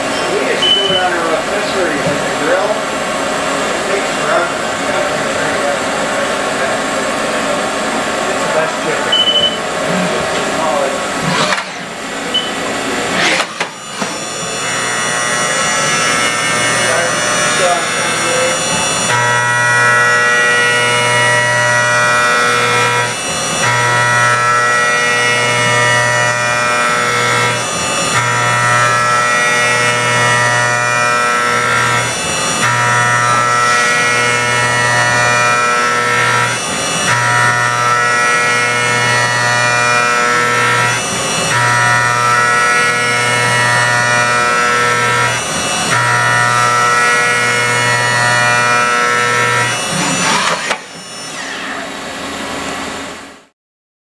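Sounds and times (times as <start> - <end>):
milling machine spindle whine: 0.0 - 53.4.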